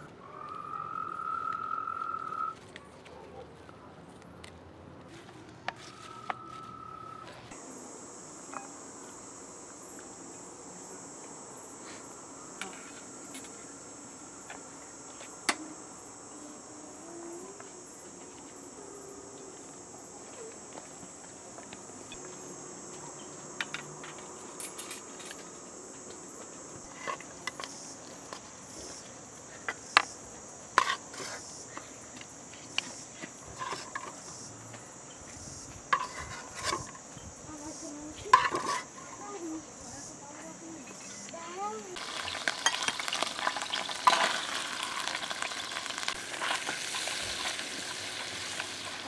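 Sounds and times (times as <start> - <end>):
insects chirring: 0.0 - 2.8, 5.6 - 49.0.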